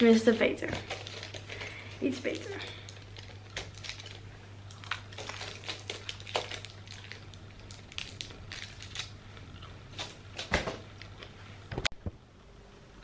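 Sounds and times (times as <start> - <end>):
person chewing crunchy food: 0.8 - 11.4.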